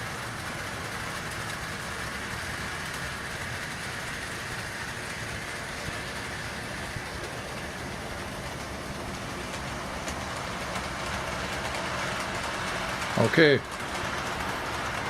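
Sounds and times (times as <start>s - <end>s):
model train whirring: 0.0s - 15.0s.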